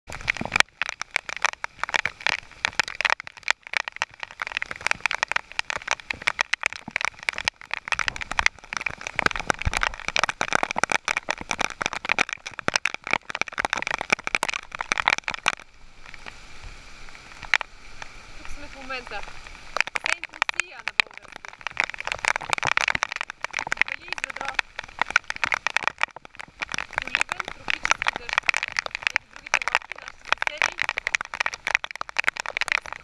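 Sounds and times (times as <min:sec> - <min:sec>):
heavy rain on sea and boat: 0:00.1 - 0:33.0.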